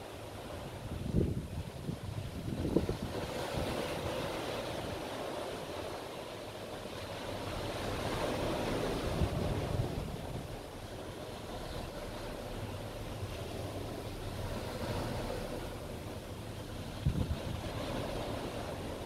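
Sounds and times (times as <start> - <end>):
surf washing onto shore: 0.0 - 19.0
wind buffeting microphone: 0.4 - 6.2, 6.8 - 19.0.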